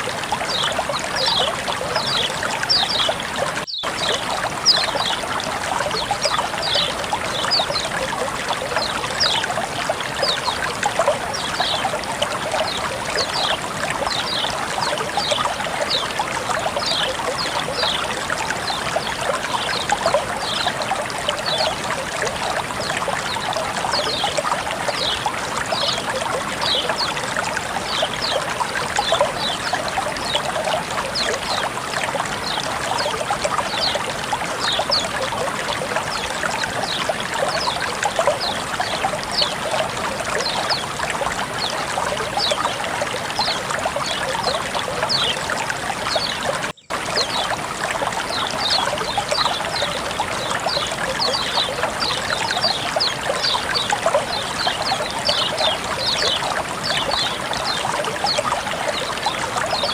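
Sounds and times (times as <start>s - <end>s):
water trickling and burbling: 0.0s - 59.9s.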